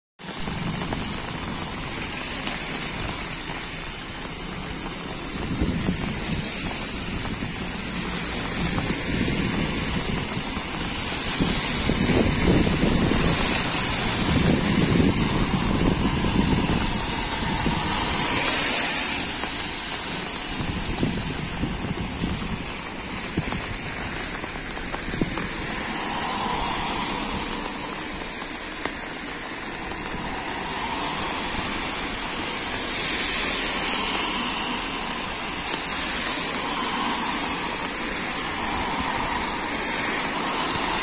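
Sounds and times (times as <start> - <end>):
traffic on wet street: 0.2 - 41.0
wind on microphone: 0.2 - 41.0.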